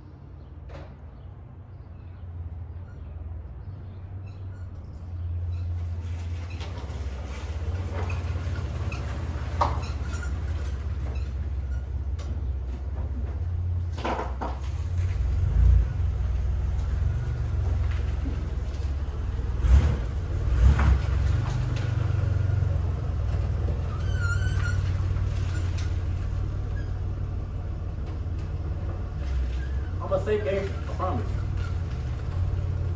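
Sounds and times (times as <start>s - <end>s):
car engine rumbling: 0.0s - 32.9s.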